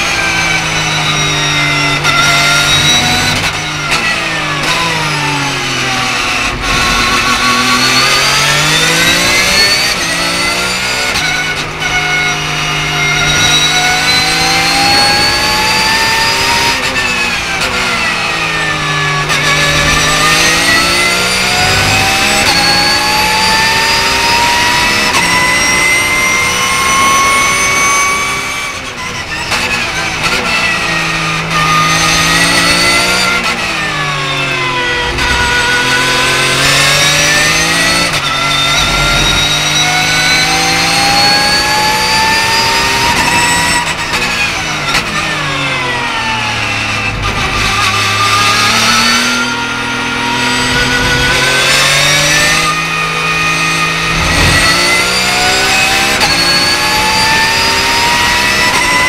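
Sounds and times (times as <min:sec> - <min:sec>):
race car engine in cockpit: 0:00.0 - 0:59.0.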